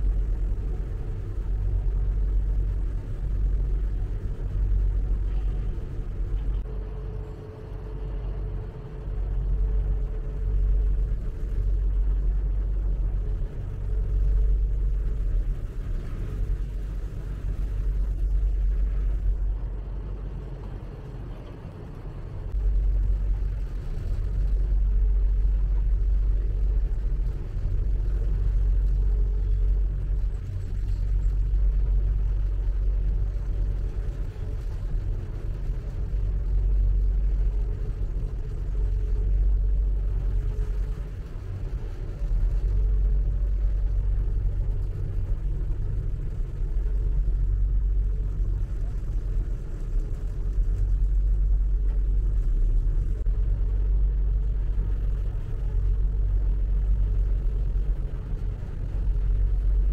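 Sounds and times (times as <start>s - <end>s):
boat engine rumbling: 0.0s - 59.9s.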